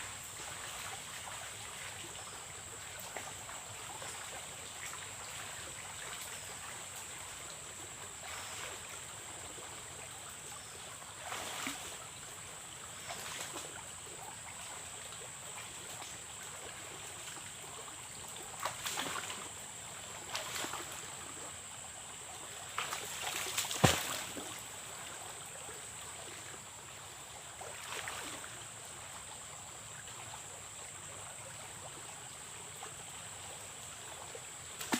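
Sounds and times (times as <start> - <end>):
river water running: 0.0 - 34.9.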